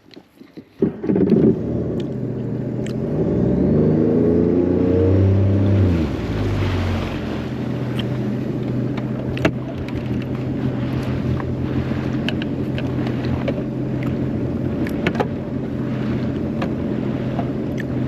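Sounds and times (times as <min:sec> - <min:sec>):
jet ski engine revving and idling: 0:00.7 - 0:18.0.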